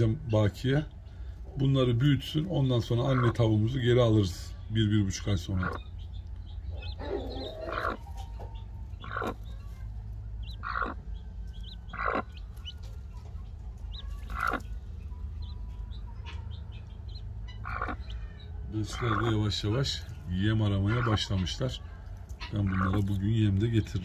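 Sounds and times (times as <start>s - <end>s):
high peeps of chicks: 0.0s - 24.0s
hen calling: 2.5s - 24.0s.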